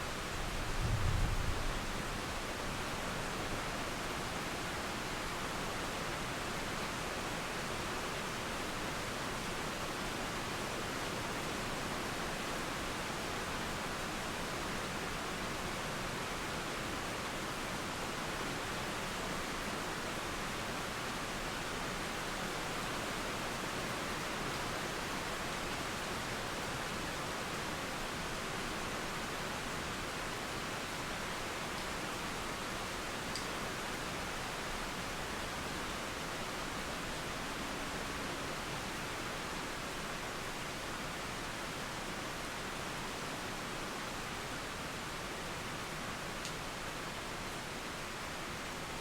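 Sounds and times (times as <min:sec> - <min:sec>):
rain: 0:00.0 - 0:49.0.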